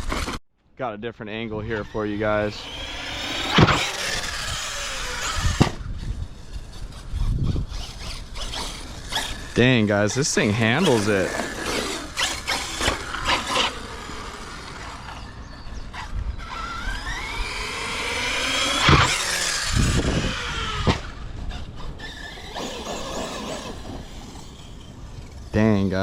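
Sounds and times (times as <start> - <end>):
electric motor whining: 1.6 - 25.8.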